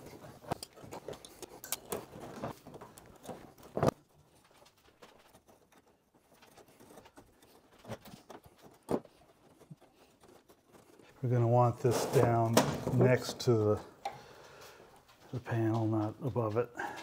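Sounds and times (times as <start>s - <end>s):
wire clicks and rustles: 0.0s - 17.0s.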